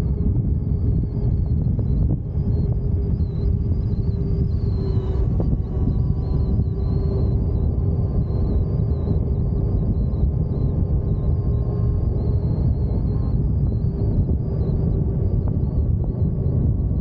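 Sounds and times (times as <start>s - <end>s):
faint high whine: 0.0s - 17.0s
wind and road rumble: 0.0s - 17.0s.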